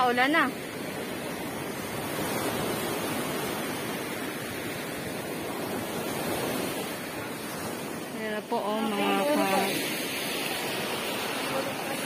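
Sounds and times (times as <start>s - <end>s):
small waves breaking on shore: 0.0s - 12.0s.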